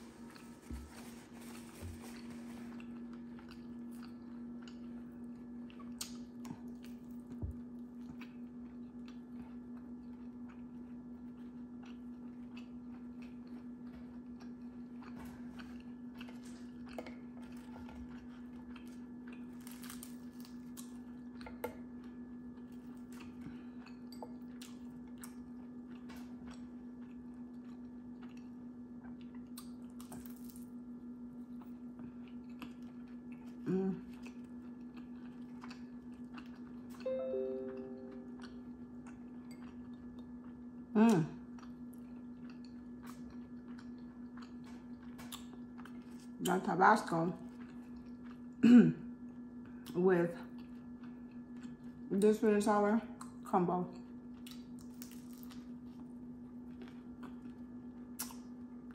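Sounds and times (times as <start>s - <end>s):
steady low hum: 0.0s - 58.9s
chewing crispy fried chicken: 0.1s - 37.1s, 37.9s - 58.9s.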